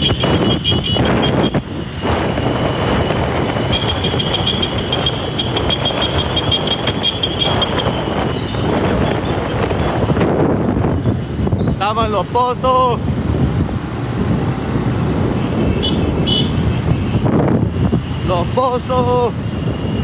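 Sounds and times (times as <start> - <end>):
motorcycles running: 0.0 - 20.0
wind noise on microphone: 0.0 - 20.0.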